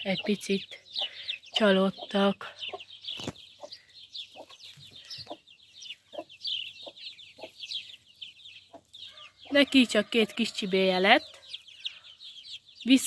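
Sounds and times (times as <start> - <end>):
hen clucking: 0.0 - 12.1
chicks peeping: 0.0 - 13.0.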